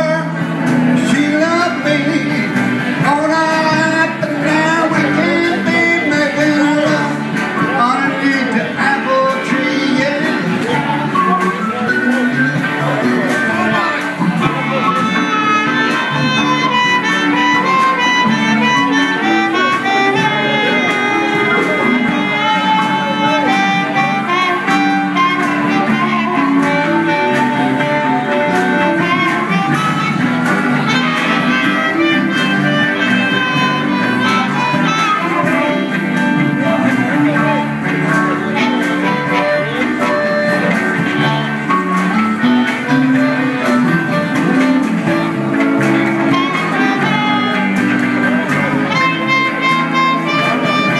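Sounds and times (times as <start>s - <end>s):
blues band playing: 0.0s - 50.9s
harmonica bending notes: 0.0s - 50.9s.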